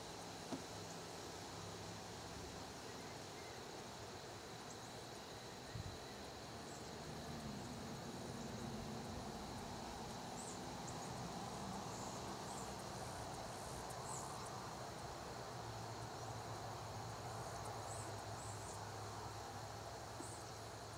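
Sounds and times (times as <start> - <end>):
faint hiss: 0.0 - 20.9.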